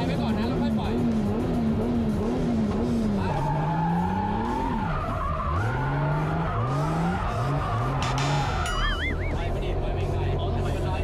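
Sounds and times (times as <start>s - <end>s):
car engine revving: 0.0s - 11.0s
tyres skidding: 0.0s - 11.0s.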